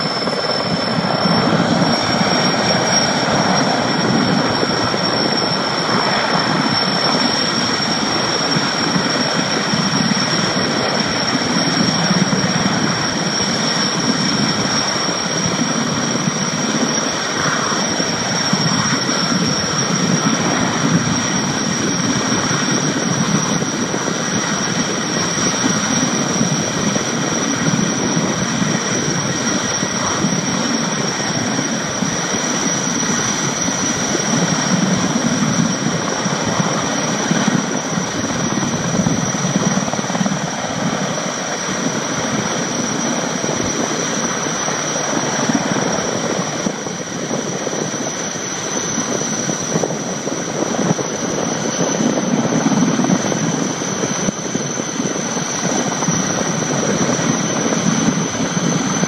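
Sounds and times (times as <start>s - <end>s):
helicopter rotor noise: 0.0s - 59.0s
high turbine whine: 0.0s - 59.0s.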